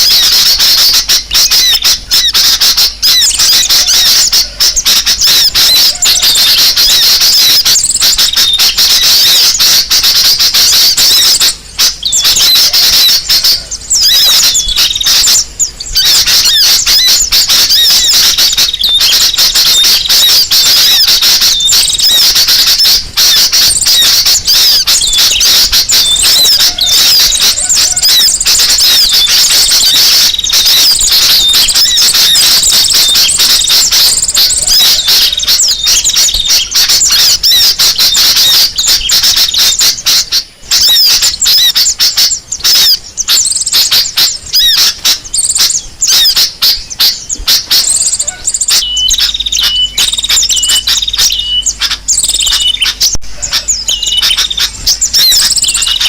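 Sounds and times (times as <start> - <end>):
small birds chattering: 0.0 - 56.0.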